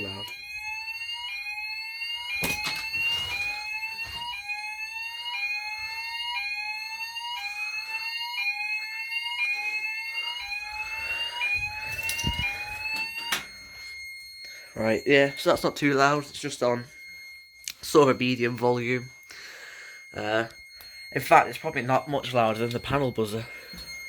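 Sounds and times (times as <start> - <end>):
fire alarm rising sweep tone: 0.0 - 24.0.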